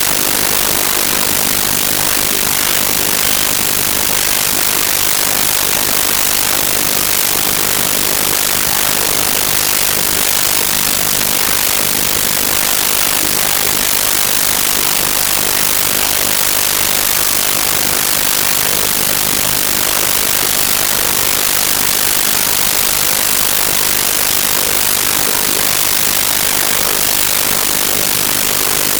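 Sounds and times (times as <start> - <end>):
loud static hiss: 0.0 - 28.9.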